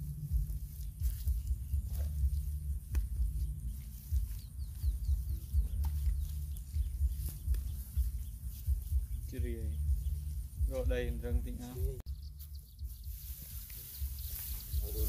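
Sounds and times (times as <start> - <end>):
hands working wet earth: 0.0 - 10.6, 12.4 - 15.0
wind buffeting microphone: 0.0 - 13.3
bird chirping: 0.0 - 15.0.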